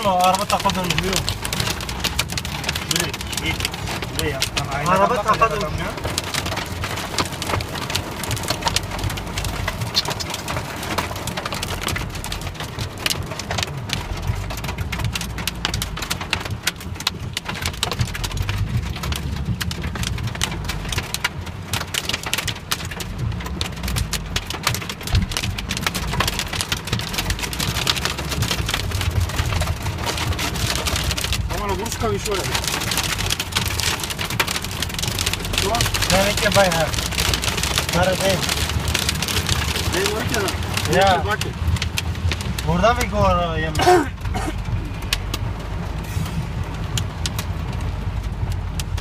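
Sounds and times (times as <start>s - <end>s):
heavy rain on hard surfaces: 0.0s - 49.0s
low rumble: 0.0s - 49.0s.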